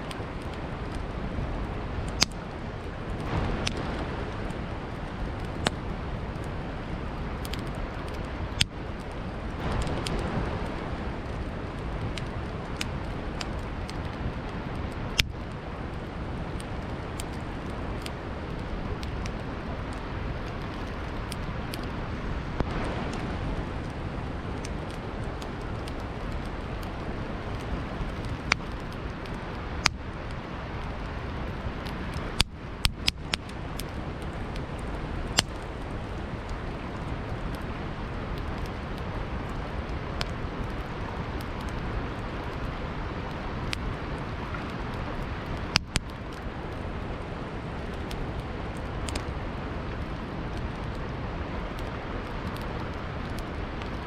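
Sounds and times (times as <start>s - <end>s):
campfire crackling and popping: 0.0s - 54.0s
river rushing: 0.0s - 54.0s.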